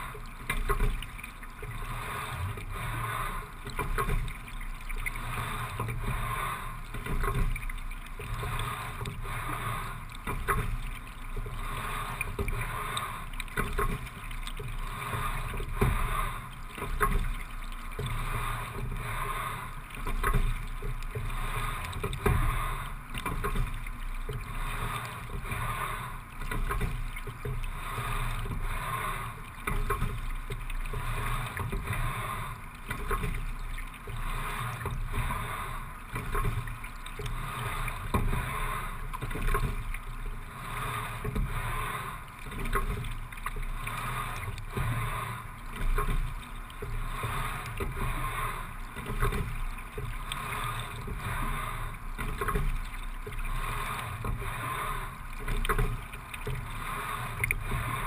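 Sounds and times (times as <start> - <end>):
water running along a hull: 0.0 - 58.0.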